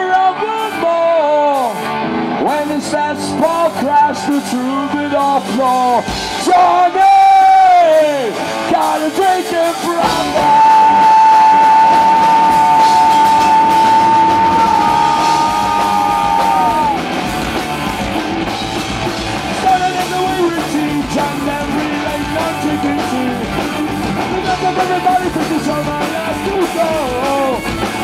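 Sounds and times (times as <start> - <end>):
punk rock band playing live: 0.0 - 28.0.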